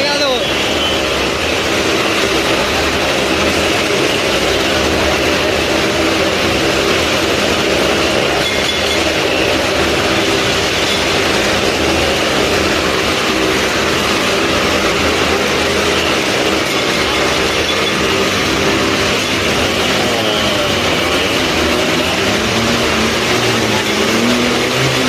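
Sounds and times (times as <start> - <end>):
large engine running loudly: 0.0 - 25.0.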